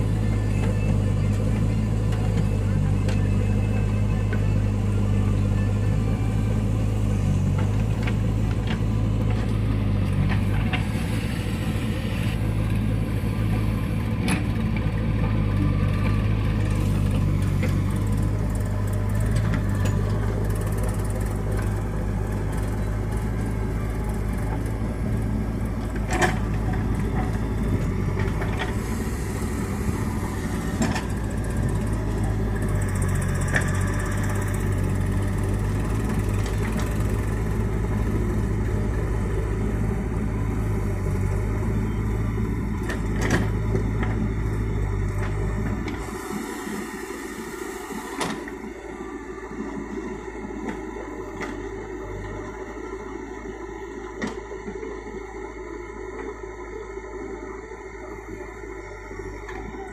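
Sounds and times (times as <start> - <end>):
backhoe diesel engine running: 0.0 - 59.9.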